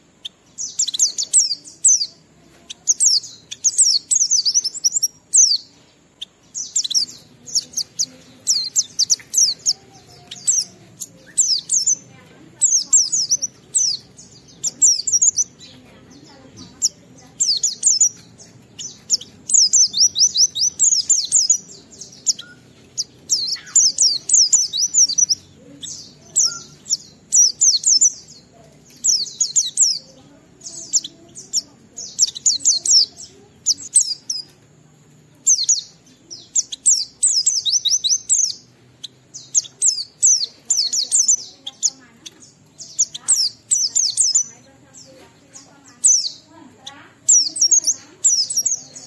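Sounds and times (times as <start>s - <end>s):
bird twittering: 0.0s - 49.0s.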